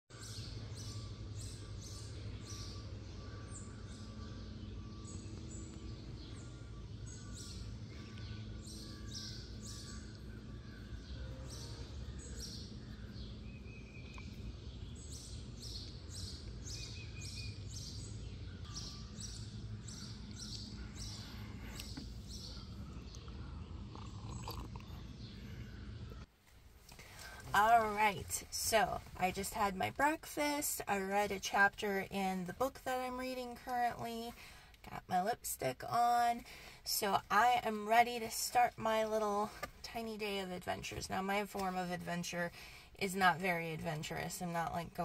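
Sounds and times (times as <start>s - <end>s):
birds chirping: 0.1s - 45.0s
low background rumble: 0.1s - 45.0s.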